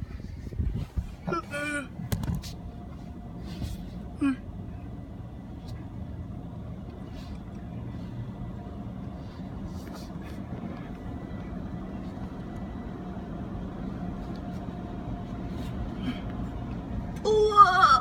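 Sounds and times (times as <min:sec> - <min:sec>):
car running hum: 0:00.0 - 0:18.0.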